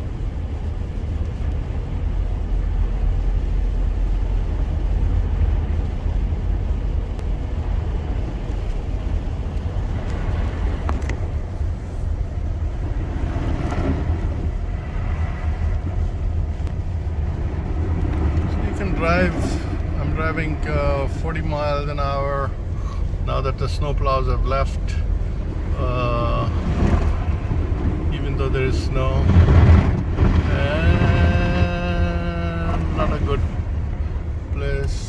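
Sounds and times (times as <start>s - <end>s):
car interior engine and road noise: 0.0s - 35.0s.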